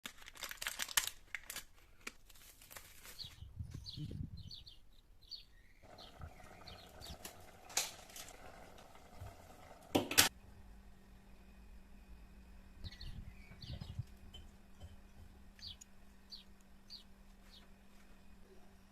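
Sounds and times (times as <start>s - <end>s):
faint steady hum: 3.5s - 18.9s.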